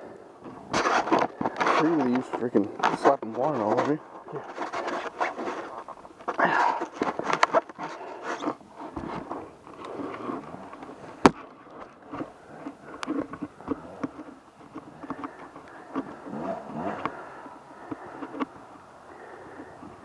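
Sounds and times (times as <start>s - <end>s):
off-road vehicle engine: 0.0s - 20.0s.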